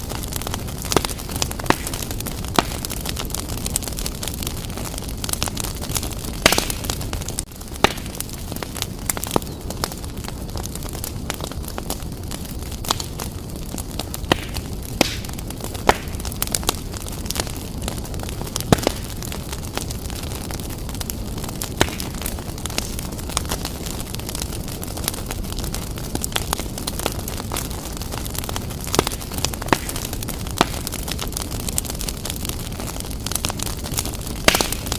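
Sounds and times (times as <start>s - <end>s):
fire crackles and sharp pops: 0.0s - 34.9s.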